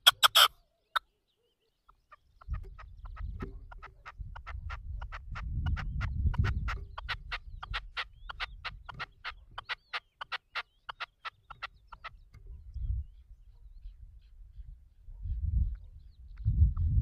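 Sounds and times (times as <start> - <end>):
partridge calling: 0.0 - 16.5.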